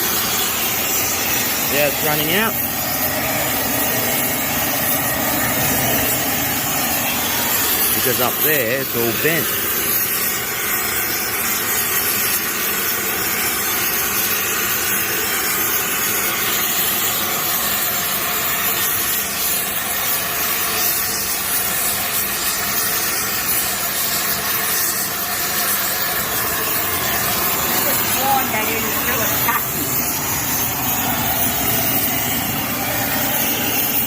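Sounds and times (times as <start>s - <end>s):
gas torch hissing: 0.0s - 34.0s.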